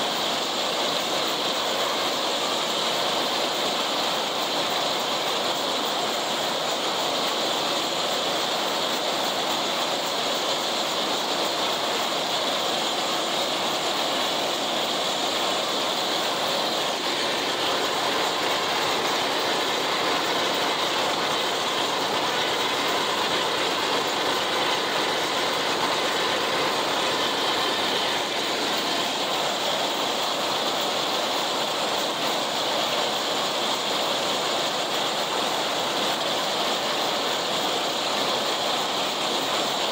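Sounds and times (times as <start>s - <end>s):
mower mechanical clatter: 0.0s - 39.9s.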